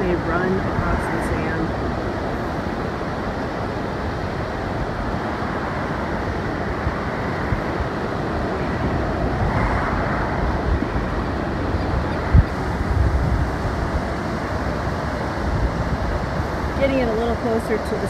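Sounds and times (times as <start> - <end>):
surf washing up a beach: 0.0 - 18.0
wind rumbling on microphone: 0.0 - 18.0.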